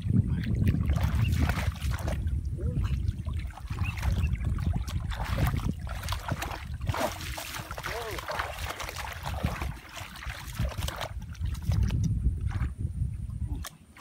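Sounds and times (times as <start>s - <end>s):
muddy water sloshing: 0.0s - 14.0s
water splash by hand: 0.6s - 12.7s.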